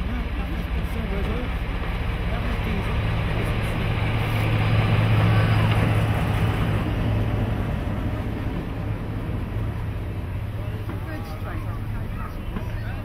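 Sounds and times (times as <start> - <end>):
diesel locomotive passing: 0.0 - 13.0.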